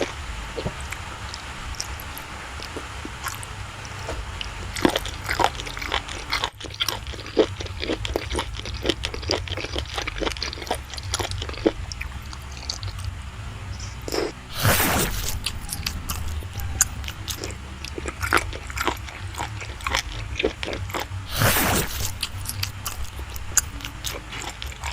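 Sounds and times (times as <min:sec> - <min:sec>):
steady low hum: 0:00.0 - 0:24.9
wet chewing and lip smacks: 0:00.0 - 0:24.9.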